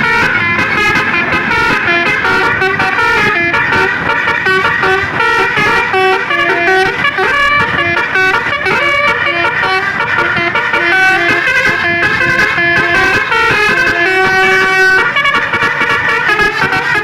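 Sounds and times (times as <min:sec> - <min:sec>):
bus musical horn melody: 0:00.0 - 0:17.0.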